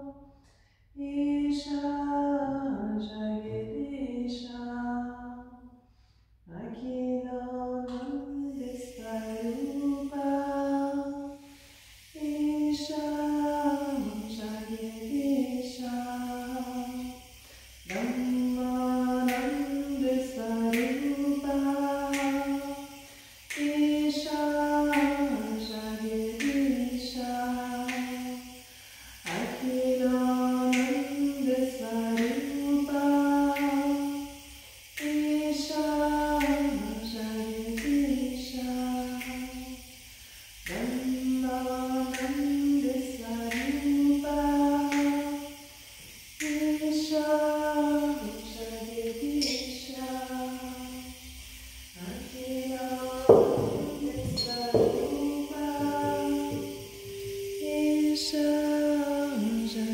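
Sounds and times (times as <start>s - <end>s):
person singing chant-like melody: 1.0s - 5.7s, 6.5s - 59.9s.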